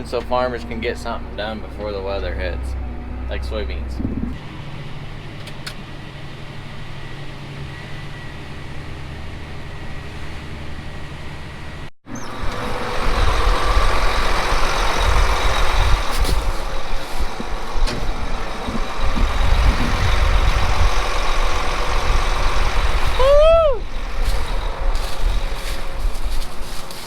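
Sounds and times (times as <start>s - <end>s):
combine harvester engine running: 0.0s - 27.0s.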